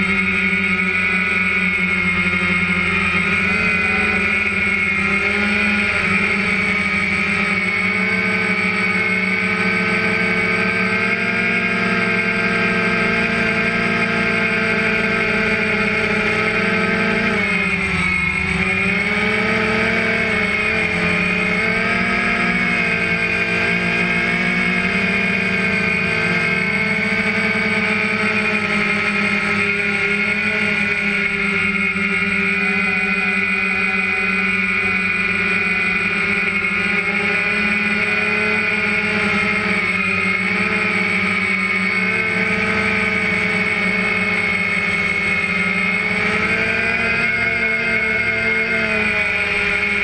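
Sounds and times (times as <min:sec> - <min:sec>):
drone propellers whining: 0:00.0 - 0:50.0.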